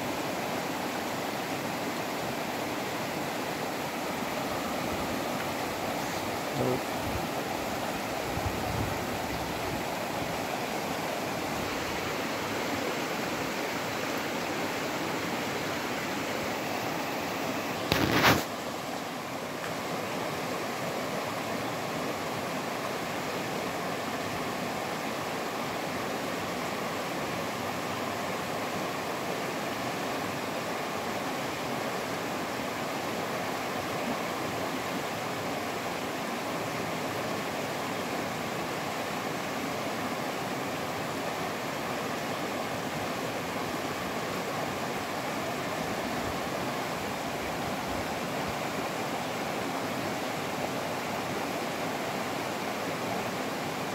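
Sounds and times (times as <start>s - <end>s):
river rushing over stones: 0.0s - 53.9s.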